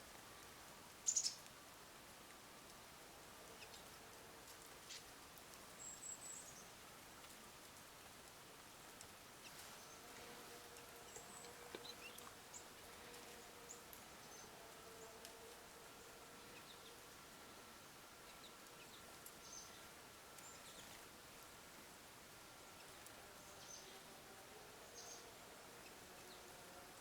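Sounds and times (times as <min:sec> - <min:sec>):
faint steady hum: 0:00.0 - 0:27.0
songbirds chirping: 0:00.0 - 0:27.0.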